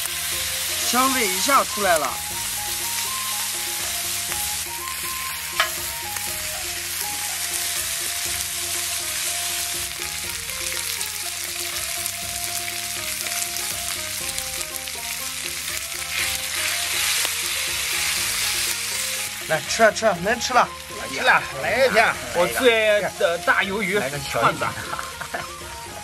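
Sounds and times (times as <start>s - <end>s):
squid sizzling on griddle: 0.0s - 26.0s.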